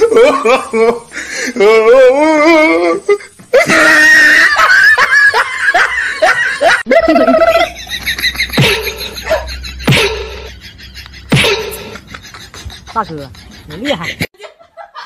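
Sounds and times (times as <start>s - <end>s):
person laughing hard: 0.0s - 15.0s.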